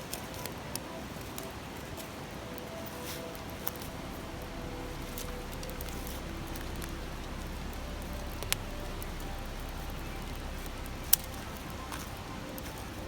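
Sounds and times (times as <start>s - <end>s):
campfire crackling: 0.0s - 13.0s
stream babbling: 0.0s - 13.0s.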